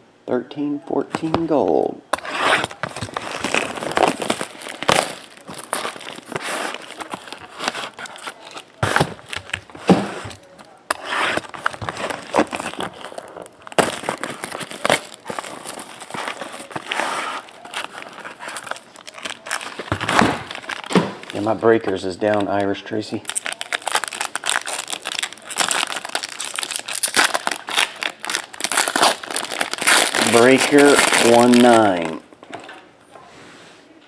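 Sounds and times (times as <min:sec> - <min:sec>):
plastic wrap crinkling and tearing: 0:02.1 - 0:32.7
foil packs rustling: 0:02.2 - 0:32.2.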